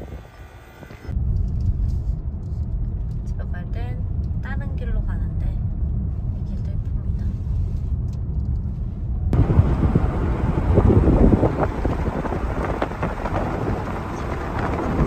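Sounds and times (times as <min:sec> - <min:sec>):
car road rumble: 0:00.0 - 0:15.0
wind buffeting microphone: 0:00.0 - 0:15.0.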